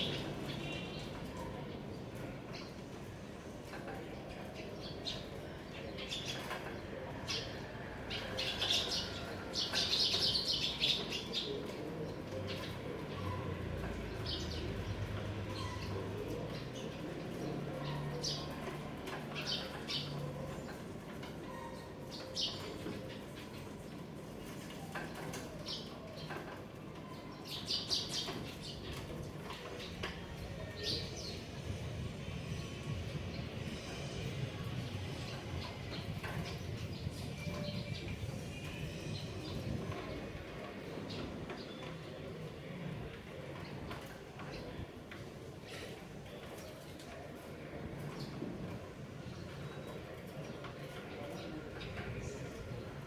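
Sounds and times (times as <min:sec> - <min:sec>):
birds chirping: 0:04.0 - 0:53.0.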